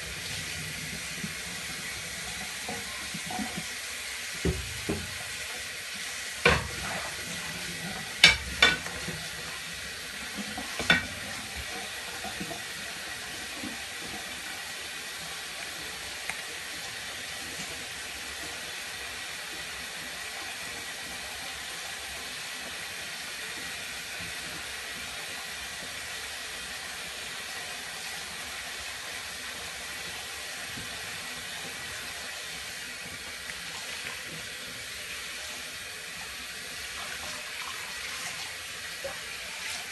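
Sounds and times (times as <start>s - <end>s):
running water at a sink: 0.0s - 39.9s.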